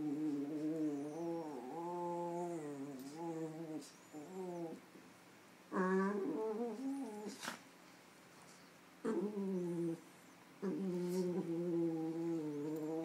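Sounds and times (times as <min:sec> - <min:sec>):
dog play-growling: 0:00.0 - 0:04.8, 0:05.7 - 0:07.7, 0:09.0 - 0:13.0.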